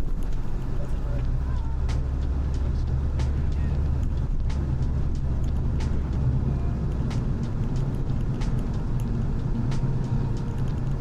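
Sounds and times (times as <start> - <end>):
engine and road noise in car: 0.0 - 11.0.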